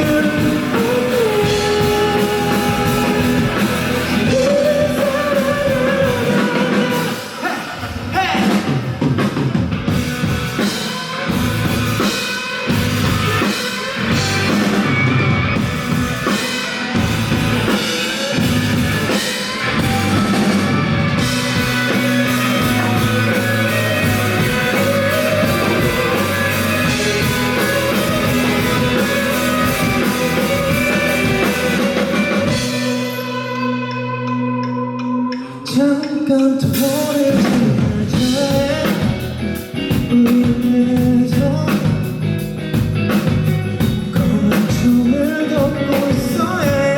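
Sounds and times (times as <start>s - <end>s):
bass and electric guitars: 0.0s - 46.9s.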